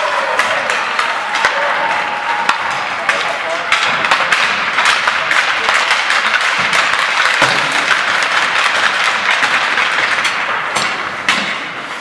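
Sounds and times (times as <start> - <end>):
hands clapping: 0.2 - 11.0.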